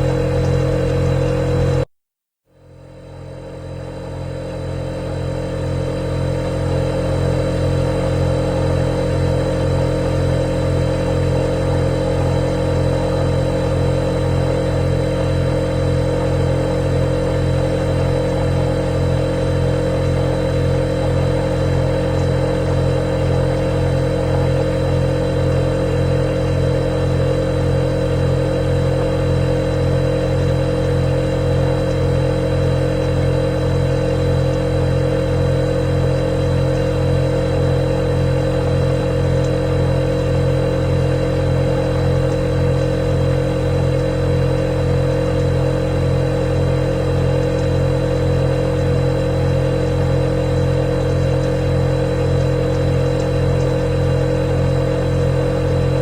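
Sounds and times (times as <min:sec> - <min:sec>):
refrigerator humming: 0:00.0 - 0:01.9, 0:02.6 - 0:56.0.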